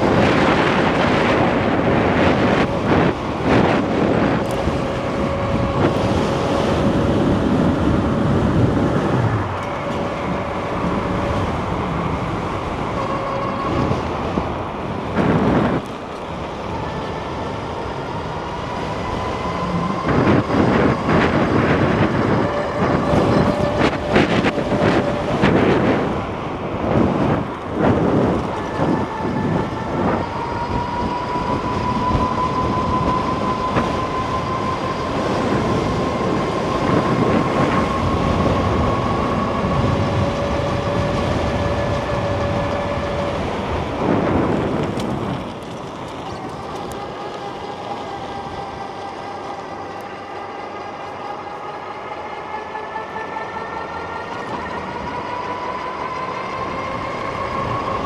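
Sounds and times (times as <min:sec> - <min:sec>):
electric bike motor whining: 0:00.0 - 0:58.0
loud rumbling noise: 0:00.0 - 0:58.0.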